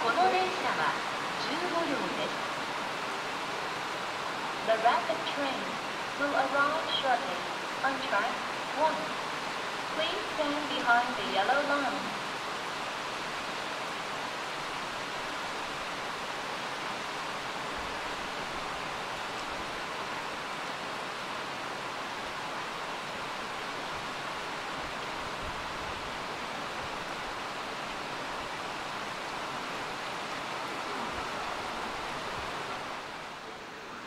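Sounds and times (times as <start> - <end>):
heavy rain rushing: 0.0 - 34.0.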